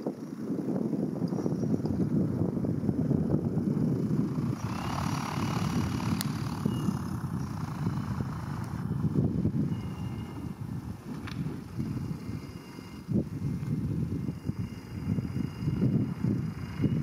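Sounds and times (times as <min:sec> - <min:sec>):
motor glider engine and propeller: 0:00.0 - 0:17.0
wind buffeting microphone: 0:00.0 - 0:17.0.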